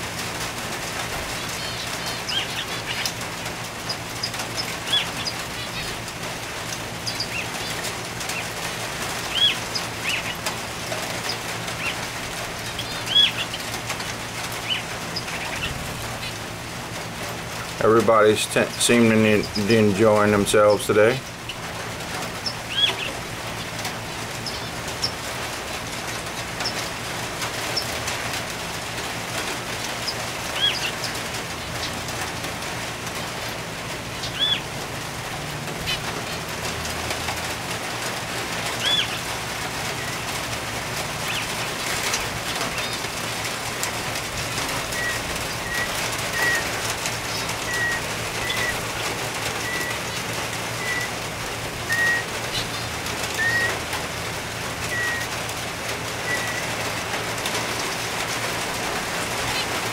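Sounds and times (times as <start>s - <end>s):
birds calling: 0.0s - 59.9s
light rain hiss: 0.0s - 59.9s.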